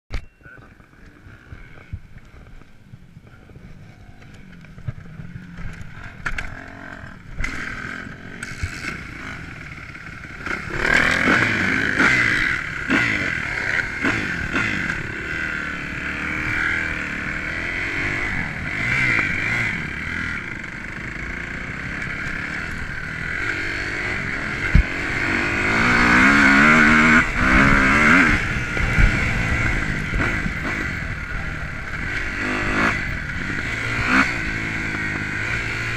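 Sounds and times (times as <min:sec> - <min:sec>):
chassis clatter over dirt: 0:00.1 - 0:35.9
motocross engine revving: 0:03.8 - 0:35.9.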